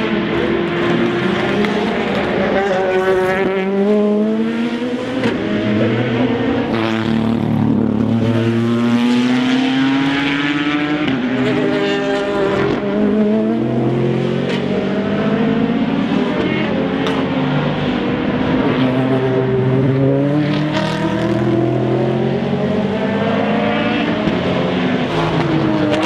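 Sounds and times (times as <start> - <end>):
race car engines accelerating: 0.0 - 26.0.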